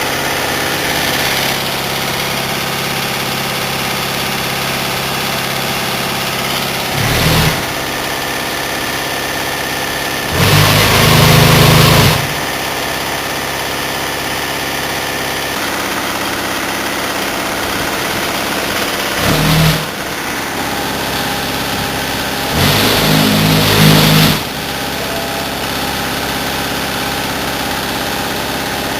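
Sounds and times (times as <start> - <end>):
diesel truck engine running: 0.0 - 28.9.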